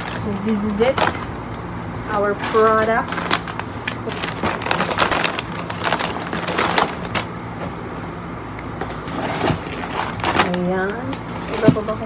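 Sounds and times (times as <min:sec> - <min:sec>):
pouches crinkling and rustling: 0:00.0 - 0:01.4, 0:02.1 - 0:07.7, 0:08.8 - 0:12.0.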